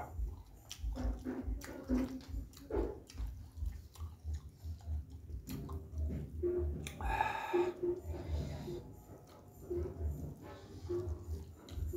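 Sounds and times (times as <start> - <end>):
person chewing food: 0.0 - 11.9
wet mouth clicks: 0.0 - 11.9.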